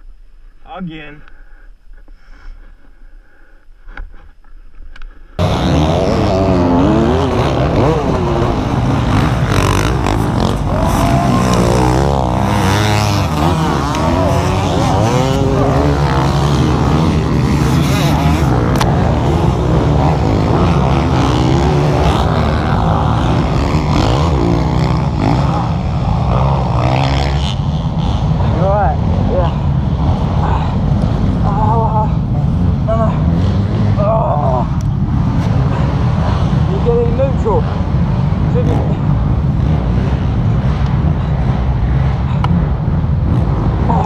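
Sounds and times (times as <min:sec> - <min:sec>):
dirt bike engine revving: 0:05.4 - 0:44.0.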